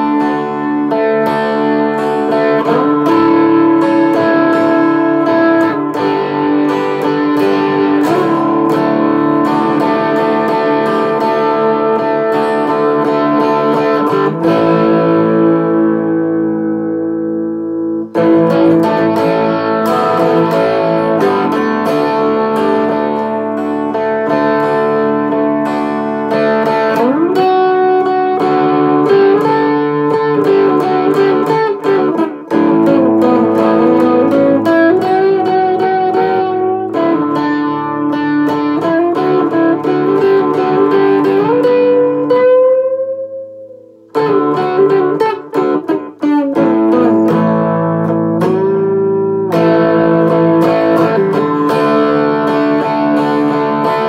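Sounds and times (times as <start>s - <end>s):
jazzy electric guitar: 0.0s - 54.0s.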